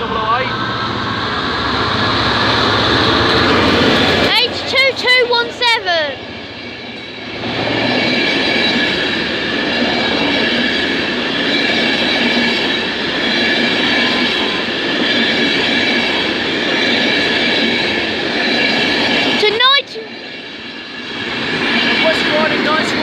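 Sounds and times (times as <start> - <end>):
train wheels clickety-clack: 1.7 - 6.1, 6.8 - 23.0.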